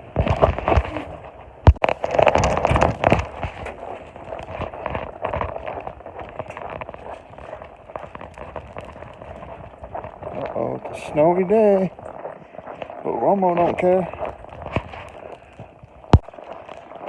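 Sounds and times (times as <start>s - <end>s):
footsteps crunching in snow: 0.0s - 17.0s.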